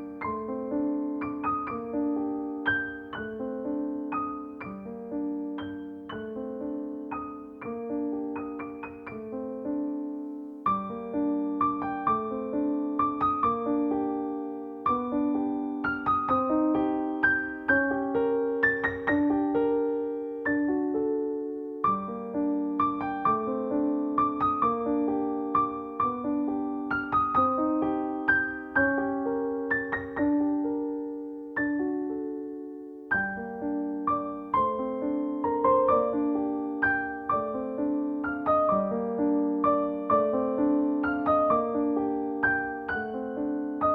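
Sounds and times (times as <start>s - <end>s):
gentle piano music: 0.0s - 43.9s.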